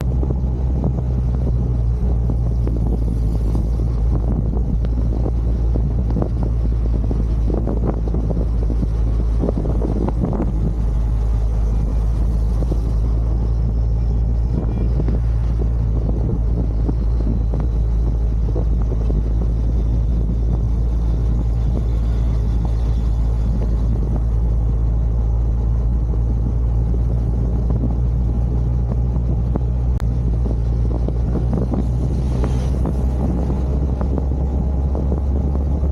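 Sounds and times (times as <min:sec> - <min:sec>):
truck engine and road rumble: 0:00.0 - 0:35.9.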